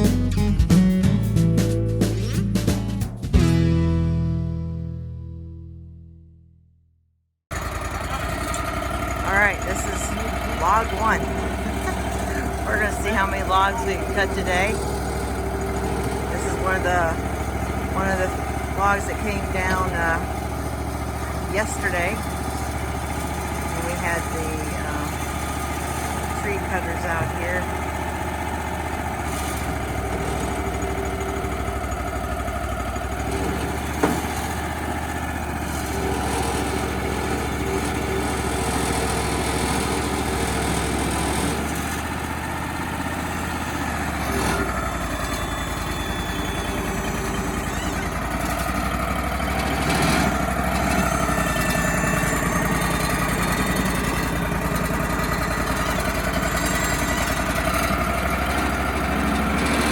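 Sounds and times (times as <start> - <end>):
sawmill engine running: 7.5 - 59.9.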